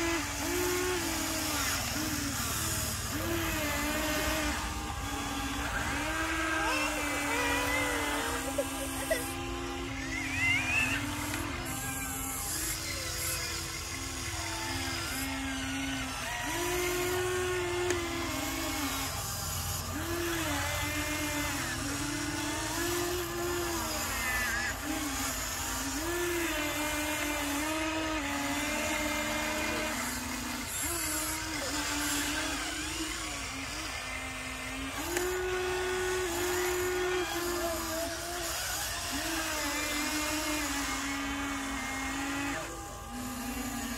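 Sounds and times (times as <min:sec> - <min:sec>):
electric motors whining: 0:00.0 - 0:43.9.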